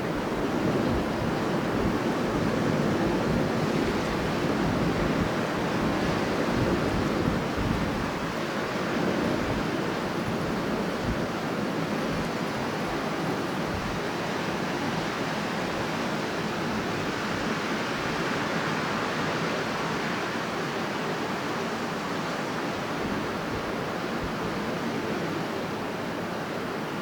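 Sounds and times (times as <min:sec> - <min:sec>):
strong wind blowing: 0:00.0 - 0:27.0.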